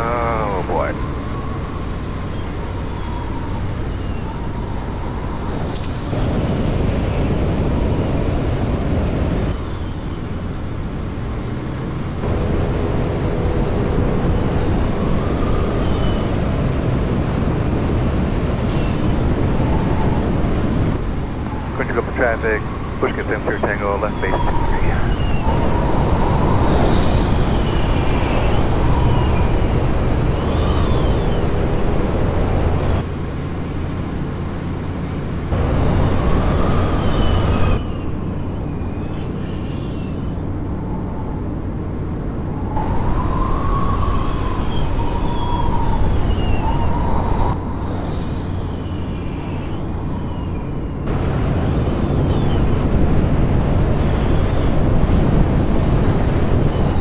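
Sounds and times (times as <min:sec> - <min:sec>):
aircraft engine and propeller drone: 0:00.0 - 0:57.0
wind noise: 0:00.0 - 0:57.0.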